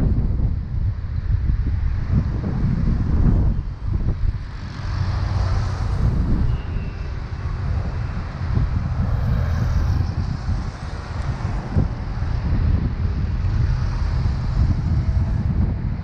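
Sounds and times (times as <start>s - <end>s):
wind buffeting microphone: 0.0s - 16.0s
car traffic passing: 0.8s - 16.0s.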